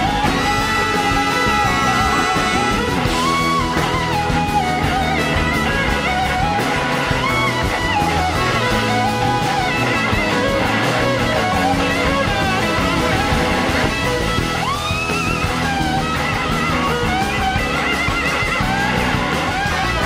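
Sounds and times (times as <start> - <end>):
drums and band: 0.0 - 20.0
electric slide guitar solo: 0.0 - 20.0.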